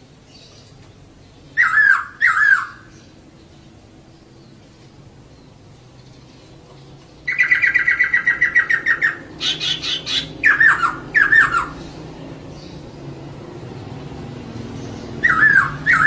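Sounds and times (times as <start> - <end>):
laughingthrush calling chirps: 0.3 - 12.9, 14.8 - 16.0.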